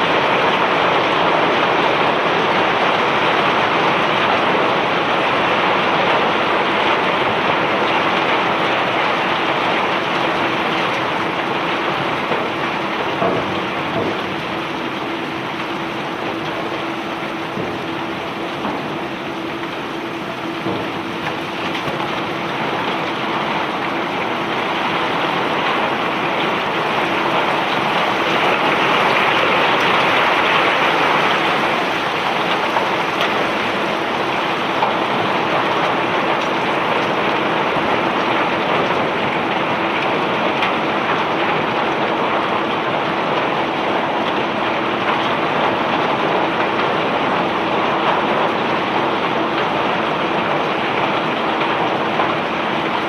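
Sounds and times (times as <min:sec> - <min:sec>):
faint machinery hum: 0:00.0 - 0:53.0.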